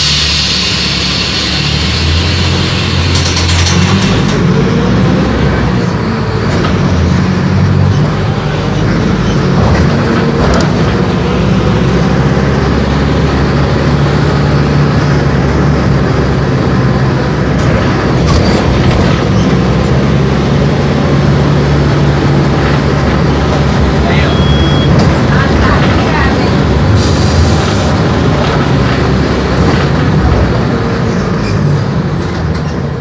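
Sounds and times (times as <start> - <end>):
bus diesel engine humming: 0.0 - 33.0
road noise: 0.0 - 33.0.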